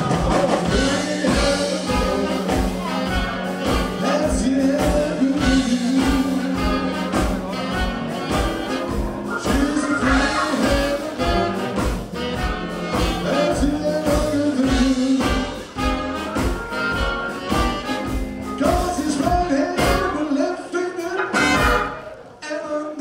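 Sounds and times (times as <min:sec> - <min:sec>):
live jazz blues band: 0:00.0 - 0:23.0
saxophones and trumpet: 0:00.0 - 0:23.0.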